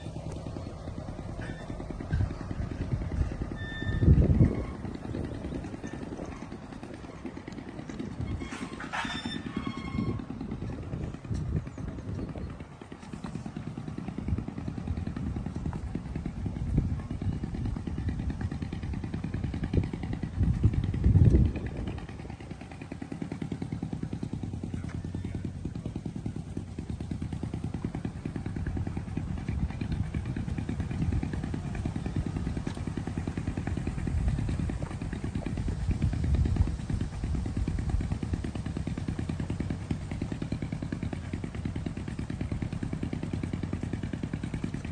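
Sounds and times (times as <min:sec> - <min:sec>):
engine running with rapid pulse: 0:00.0 - 0:44.9.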